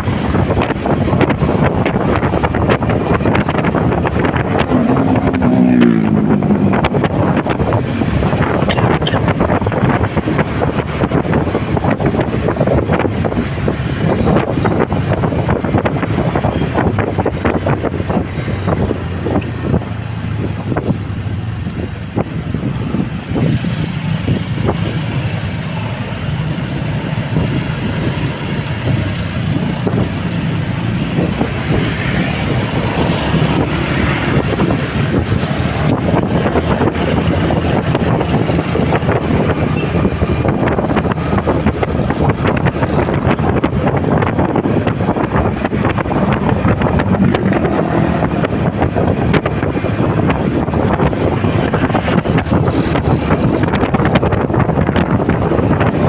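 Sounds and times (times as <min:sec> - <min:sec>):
motorcycle engine: 0:00.0 - 0:56.0
surrounding traffic: 0:00.0 - 0:56.0
wind on microphone: 0:00.0 - 0:56.0.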